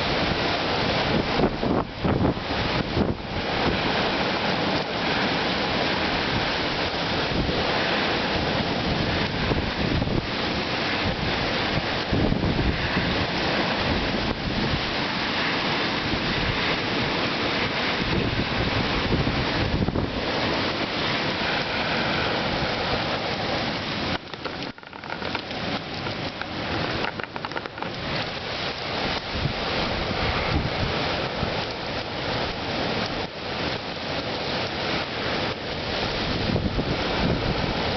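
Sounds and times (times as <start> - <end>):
strong storm wind blowing: 0.0 - 37.9
wind gusts buffeting microphone: 0.0 - 37.9.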